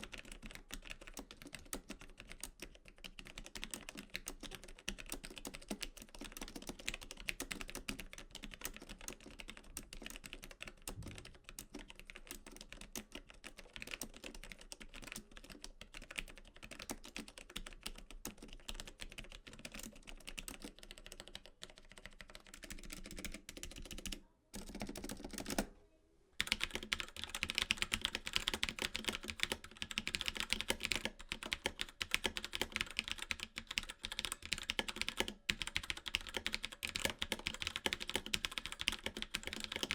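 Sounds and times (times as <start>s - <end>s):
typing on mechanical keyboard: 0.0s - 25.7s, 26.4s - 39.9s.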